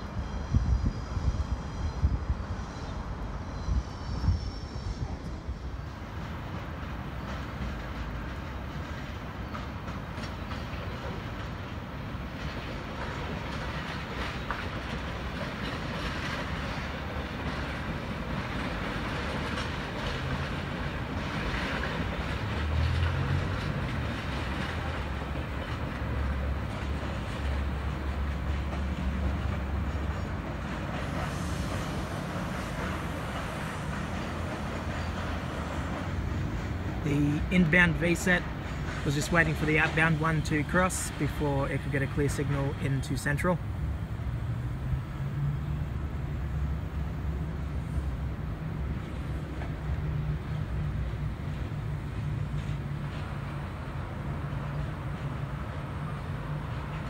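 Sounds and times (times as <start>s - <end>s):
electric train rumbling past: 0.0s - 57.0s.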